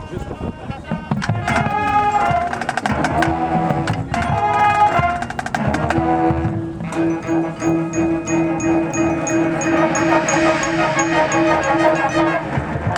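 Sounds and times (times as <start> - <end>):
marching band playing: 0.9 - 12.9
percussion hits: 1.0 - 12.9.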